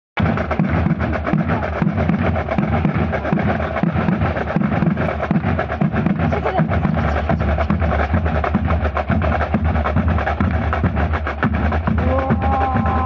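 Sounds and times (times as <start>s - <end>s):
low repeating drum beat: 0.2s - 13.0s
marching drums playing: 0.2s - 13.0s.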